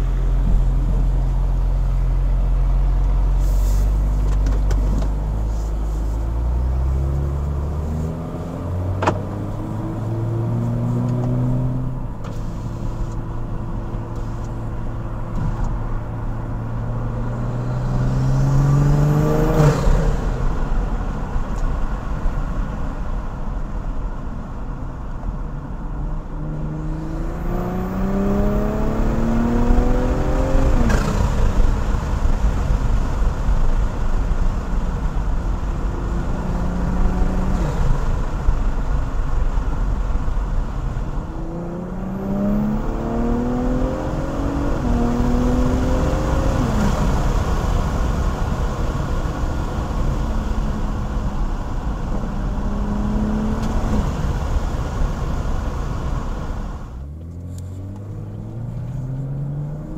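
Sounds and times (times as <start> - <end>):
car engine accelerating through gears: 0.0 - 22.7, 25.5 - 59.9
low road rumble: 0.0 - 59.9.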